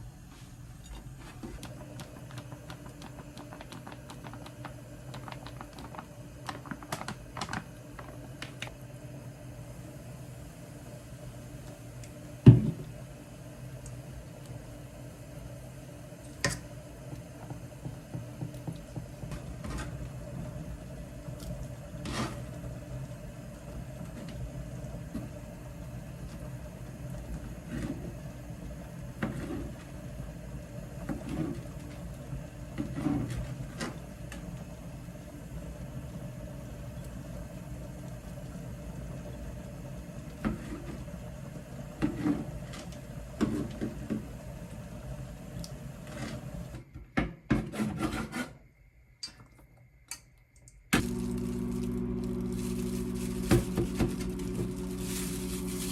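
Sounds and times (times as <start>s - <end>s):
kitchen appliances humming: 0.0s - 55.9s.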